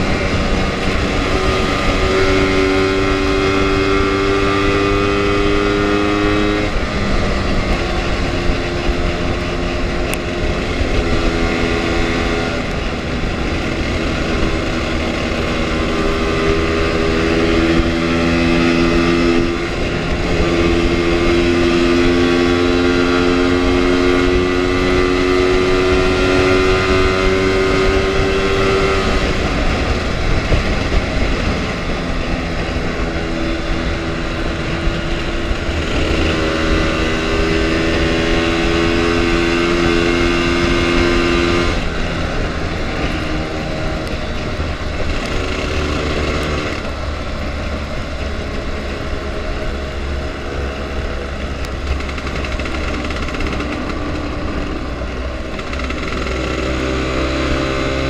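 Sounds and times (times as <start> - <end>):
scooter engine: 0.0 - 58.0
wind rushing: 0.0 - 58.0.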